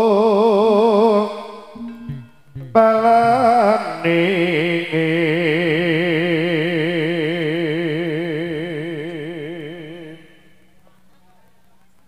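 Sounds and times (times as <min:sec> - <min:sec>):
person singing a long note: 0:00.0 - 0:10.7.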